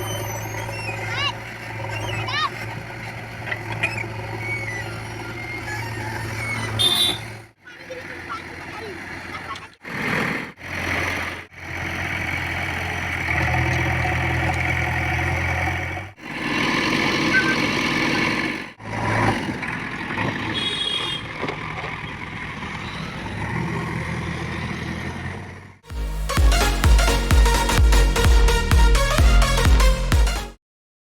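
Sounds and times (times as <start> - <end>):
diesel engine running: 0.0 - 30.6.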